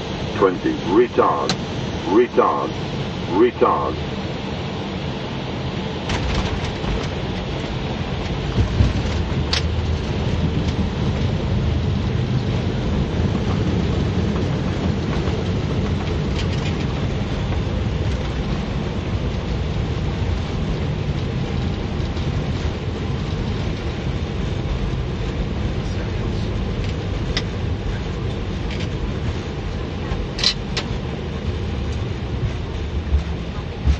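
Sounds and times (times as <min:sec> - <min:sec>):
jet engine noise: 0:00.0 - 0:33.9.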